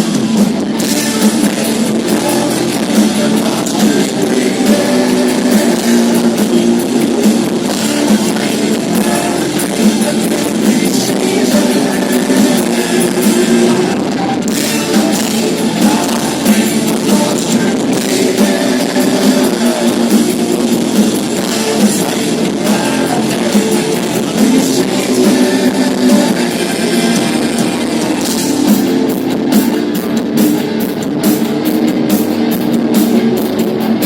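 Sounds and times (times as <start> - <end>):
drum kit: 0.0 - 34.0
electric guitar: 0.0 - 34.0
live rock band playing: 0.0 - 34.0.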